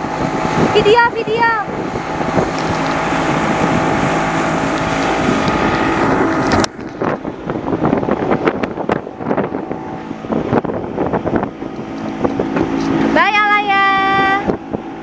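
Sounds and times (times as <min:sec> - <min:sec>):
motorboat engine running: 0:00.0 - 0:15.0
wind on microphone: 0:00.0 - 0:15.0.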